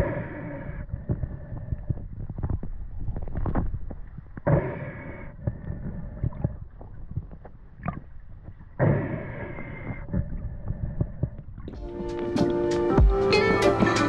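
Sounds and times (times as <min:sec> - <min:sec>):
muffled underwater rumble: 0:00.0 - 0:14.0.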